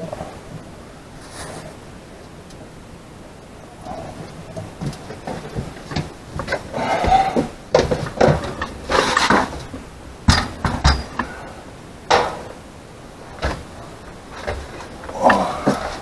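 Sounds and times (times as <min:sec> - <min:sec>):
rustling: 0:00.0 - 0:02.7, 0:03.5 - 0:16.0.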